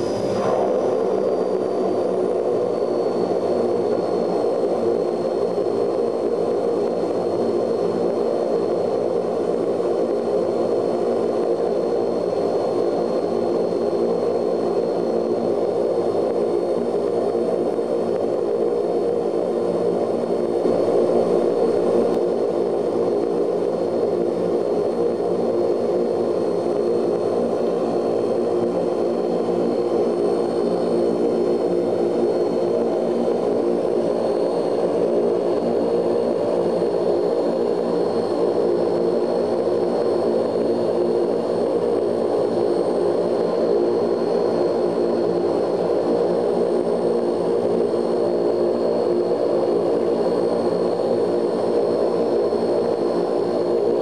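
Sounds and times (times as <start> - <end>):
high-pitched turbine whine: 0.0 - 54.0
turboprop engine drone: 0.0 - 54.0.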